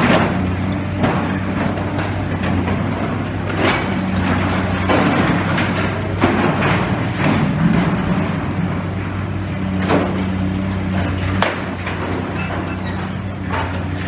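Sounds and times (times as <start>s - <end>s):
debris knocking and clattering: 0.0s - 8.9s, 11.0s - 14.0s
excavator diesel engine running: 0.0s - 14.0s.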